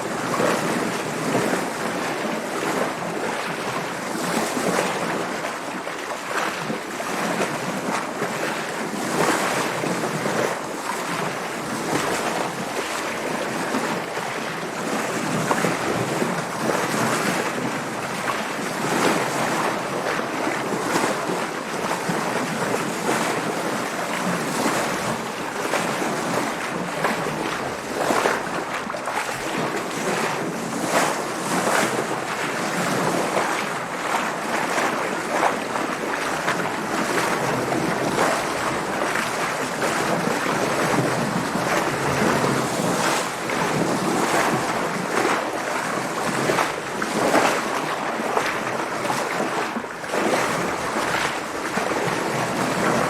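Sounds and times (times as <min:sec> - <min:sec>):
water splashing against boat hull: 0:00.0 - 0:53.0
wind: 0:00.0 - 0:53.0.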